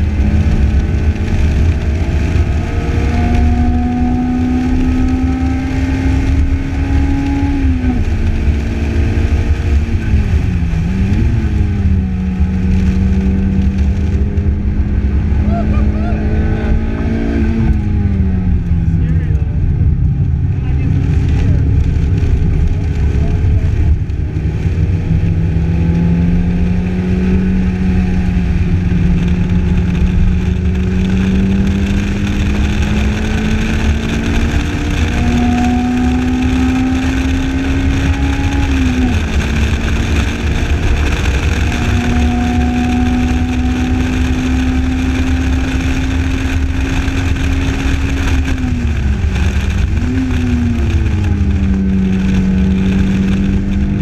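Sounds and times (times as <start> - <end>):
car engine running hard: 0.0 - 54.0
low wind rumble: 0.0 - 54.0.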